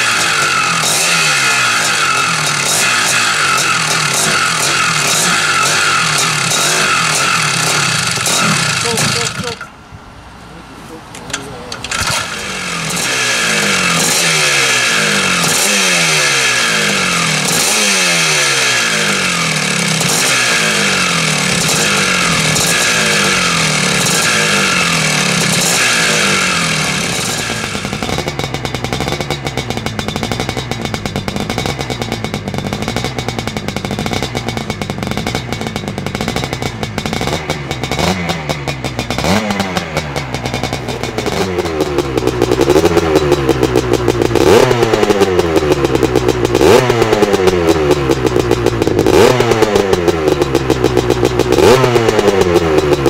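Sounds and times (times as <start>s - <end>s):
motocross engine revving: 0.0s - 9.8s, 11.1s - 53.0s.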